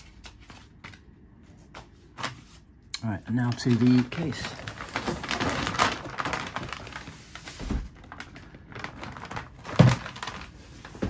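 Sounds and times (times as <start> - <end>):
paper crinkling and rustling: 0.0 - 2.7, 3.3 - 11.0.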